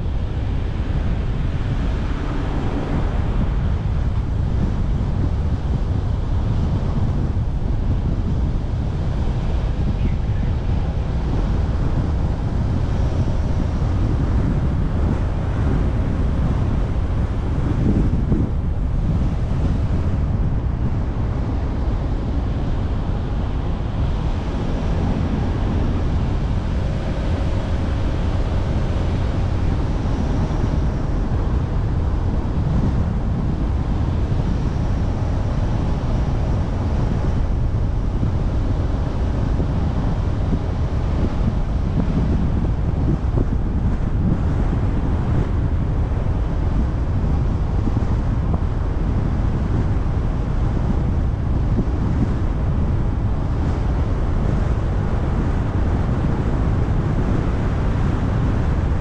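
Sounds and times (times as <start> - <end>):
car road noise: 0.0 - 49.0
wind rumble on microphone: 0.0 - 59.0.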